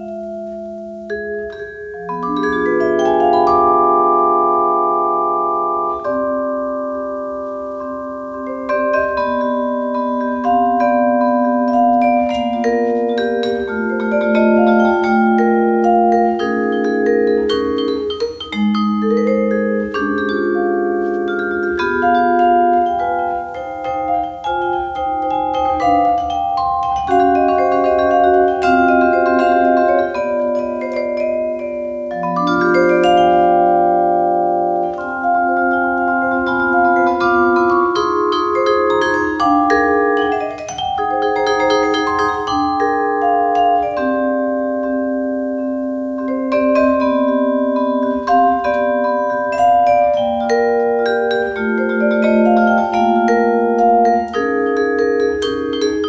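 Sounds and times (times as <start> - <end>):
vibraphone played with mallets: 0.0 - 56.0.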